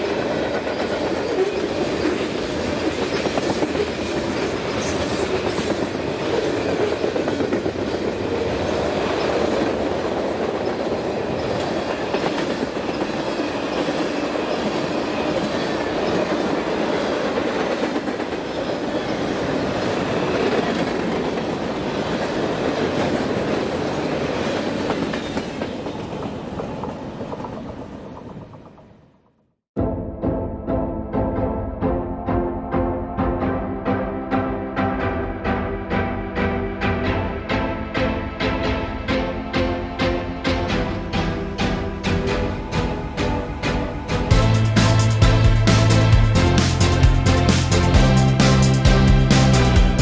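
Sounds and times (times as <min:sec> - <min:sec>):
freight train rumble: 0:00.0 - 0:29.0, 0:31.4 - 0:50.0.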